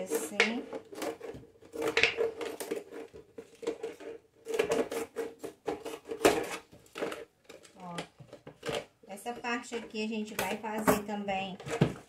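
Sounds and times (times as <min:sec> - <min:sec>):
scissors cutting plastic bottle: 0:00.0 - 0:12.0.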